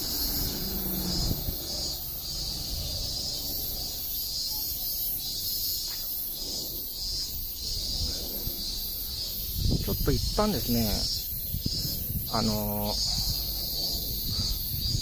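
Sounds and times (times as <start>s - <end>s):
insects shrilling in pulses: 0.0s - 15.0s.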